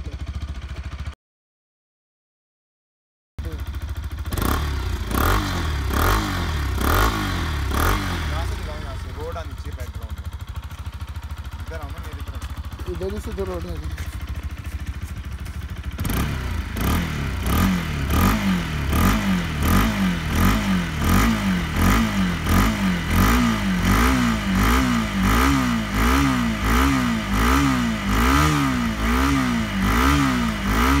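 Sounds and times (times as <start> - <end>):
motorcycle engine revving: 0.0 - 1.2, 3.4 - 31.0.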